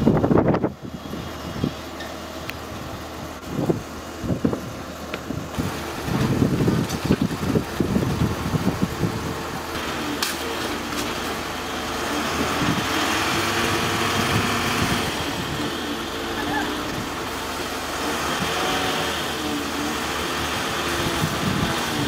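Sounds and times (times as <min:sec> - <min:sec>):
diesel engine idling: 0:00.0 - 0:22.0
low buffeting: 0:00.0 - 0:22.0.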